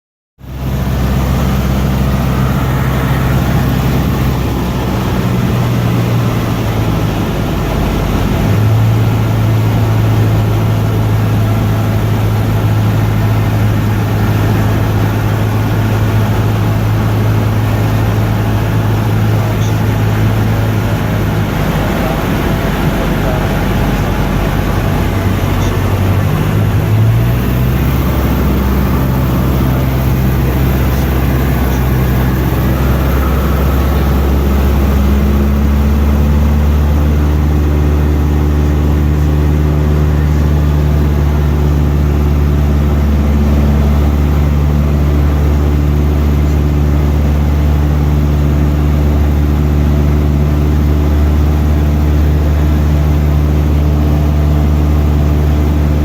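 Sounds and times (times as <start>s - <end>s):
propeller plane engine running: 0.4s - 56.0s.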